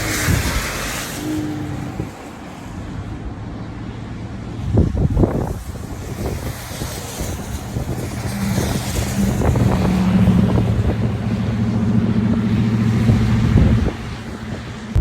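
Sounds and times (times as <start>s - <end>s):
car engine hum: 0.0s - 15.0s
road noise on snow: 0.0s - 15.0s.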